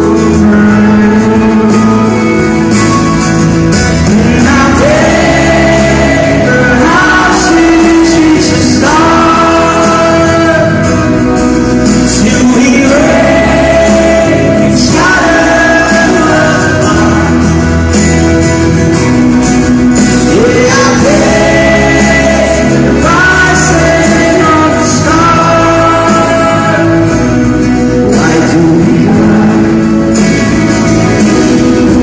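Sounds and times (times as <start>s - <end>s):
guitar: 0.0s - 32.0s
steady bass: 0.0s - 32.0s
man singing: 3.9s - 18.5s, 20.0s - 32.0s.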